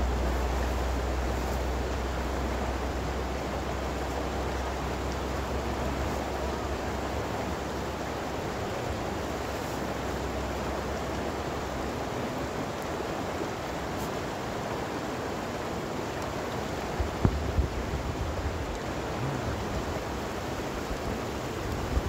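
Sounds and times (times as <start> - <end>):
steady rushing outdoor noise: 0.0 - 22.0.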